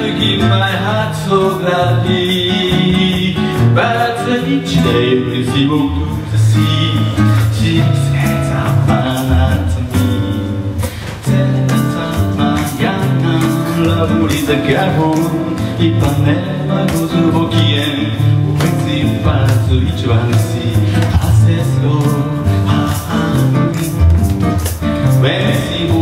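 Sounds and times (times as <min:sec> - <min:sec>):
acoustic guitar strumming: 0:00.0 - 0:26.0
man singing: 0:00.0 - 0:26.0.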